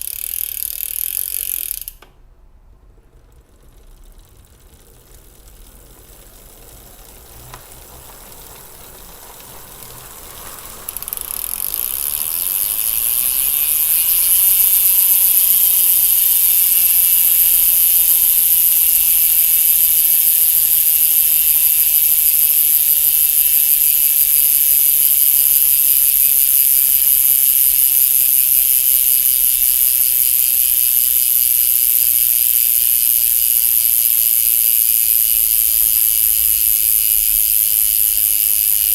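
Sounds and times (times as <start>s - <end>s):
bicycle freehub ratcheting buzz: 0.0s - 2.2s, 3.0s - 38.9s.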